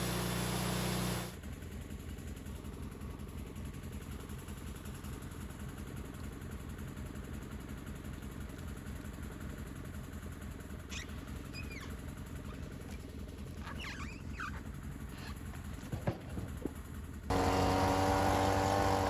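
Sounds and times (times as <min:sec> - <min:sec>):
sawmill engine humming: 0:00.0 - 0:19.0.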